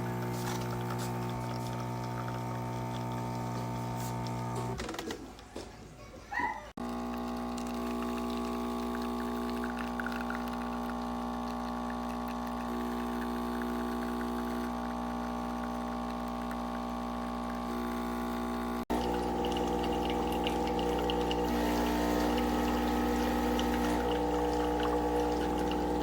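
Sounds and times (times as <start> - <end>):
coffee trickling: 0.0 - 4.8, 6.8 - 26.0
espresso machine pump running: 0.0 - 4.8, 6.8 - 26.0.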